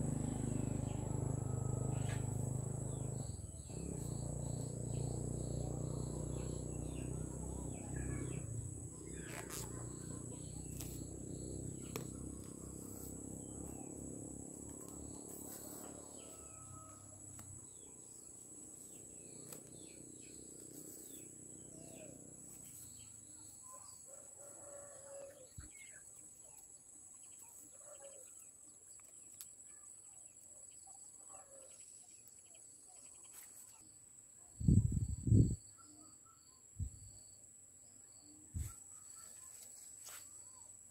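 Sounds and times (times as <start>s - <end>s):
insects chirping: 0.0s - 30.9s, 32.0s - 40.9s.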